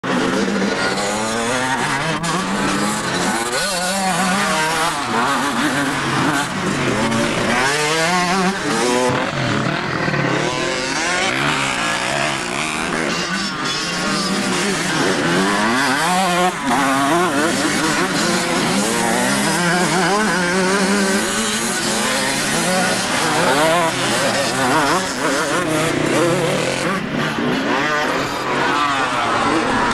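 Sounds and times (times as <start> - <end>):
motocross bike engines revving: 0.0 - 29.9.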